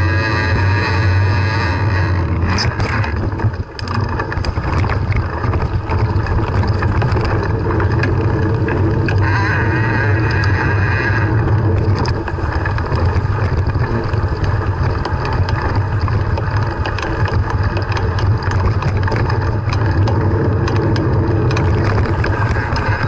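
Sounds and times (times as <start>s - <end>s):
bicycle rattles and clicks: 0.0s - 23.0s
wind and rolling tyres rumble: 0.0s - 23.0s.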